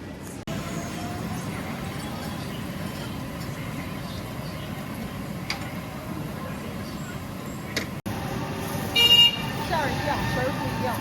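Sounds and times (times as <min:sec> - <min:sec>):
street market hubbub: 0:00.0 - 0:11.0.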